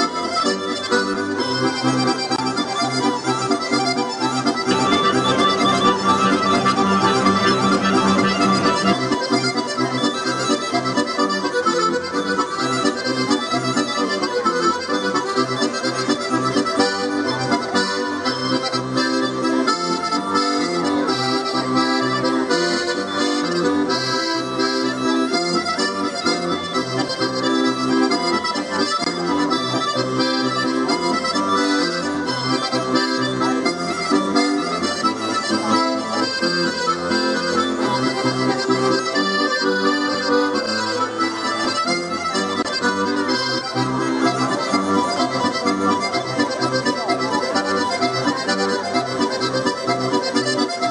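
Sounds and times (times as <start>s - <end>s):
accordion playing a tune: 0.0s - 50.9s.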